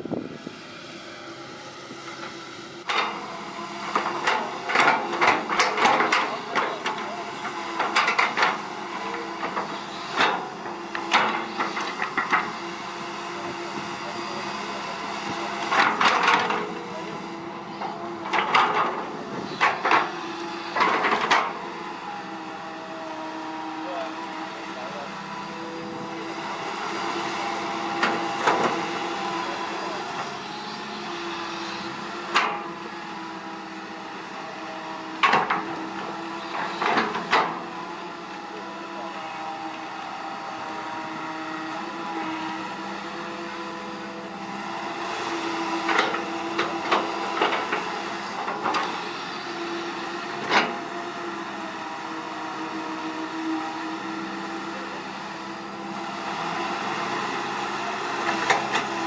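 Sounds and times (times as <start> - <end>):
excavator diesel engine: 0.0 - 59.0
hydraulic whine: 0.0 - 59.0.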